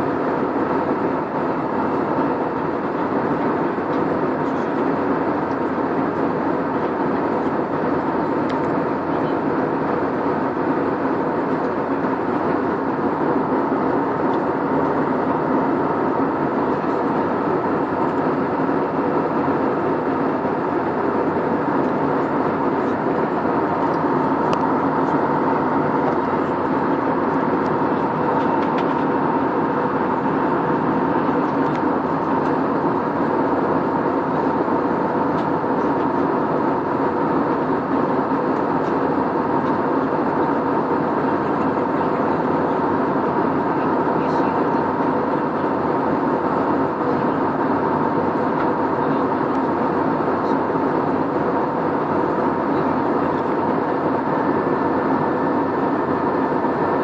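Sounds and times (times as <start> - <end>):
airliner engines droning: 0.0 - 57.0
faint steady whine: 0.0 - 57.0.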